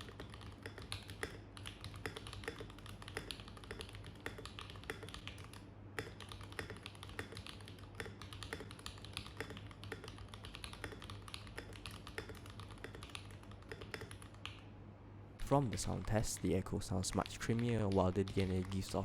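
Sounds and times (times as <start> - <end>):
mechanical keyboard typing: 0.0 - 14.6, 15.4 - 19.0
faint low hum: 0.0 - 19.0.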